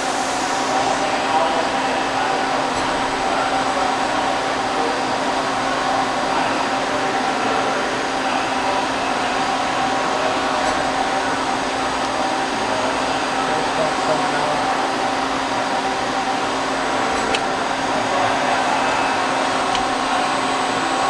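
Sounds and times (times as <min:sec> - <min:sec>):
lathe machine whirring: 0:00.0 - 0:21.0.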